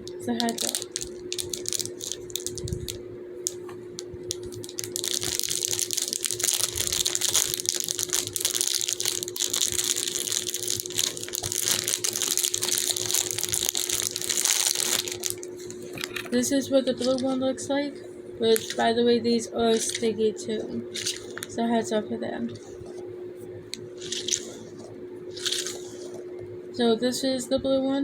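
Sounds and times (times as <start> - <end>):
plastic packaging crinkling: 0.0 - 17.4, 18.5 - 19.0, 19.6 - 21.7, 23.6 - 26.4.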